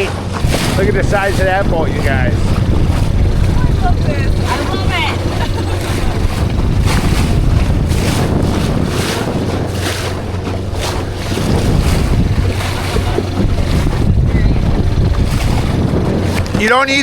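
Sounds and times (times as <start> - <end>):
outboard motor humming: 0.0 - 17.0
rushing water noise: 0.0 - 17.0
wind noise on microphone: 0.0 - 17.0.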